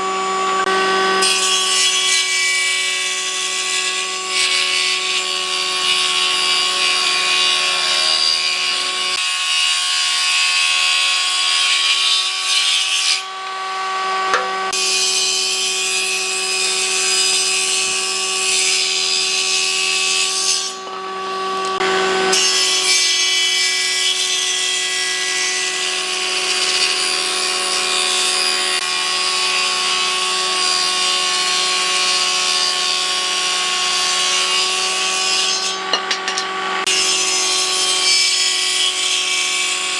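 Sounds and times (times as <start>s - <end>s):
power tool motor whine: 0.0s - 23.4s, 25.6s - 39.9s.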